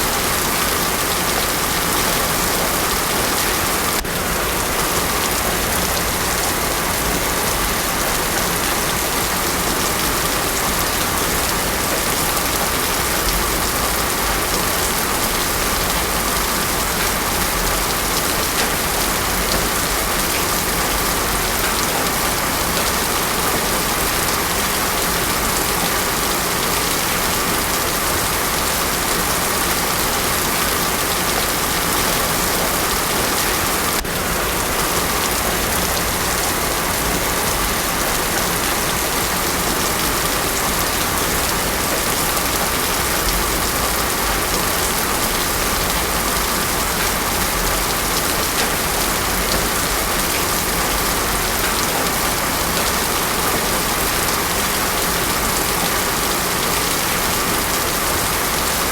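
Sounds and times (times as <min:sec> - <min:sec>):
heavy rain on road: 0:00.0 - 0:58.9.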